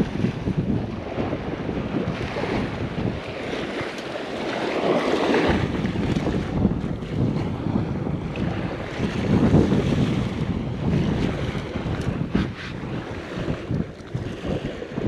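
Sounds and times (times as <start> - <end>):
surf breaking: 0.0 - 15.0
wind buffeting microphone: 0.0 - 15.0.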